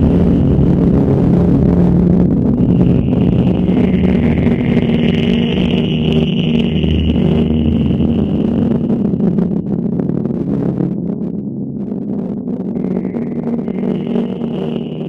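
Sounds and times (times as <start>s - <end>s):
high electronic whine: 0.0s - 15.0s
low electronic drone: 0.0s - 15.0s.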